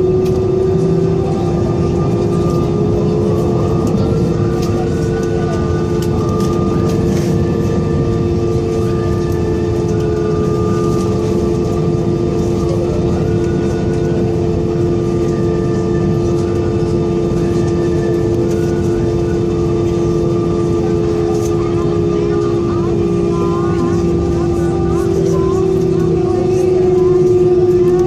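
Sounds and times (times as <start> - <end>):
airplane cabin engine drone: 0.0 - 28.0
steady hum tones: 0.0 - 28.0.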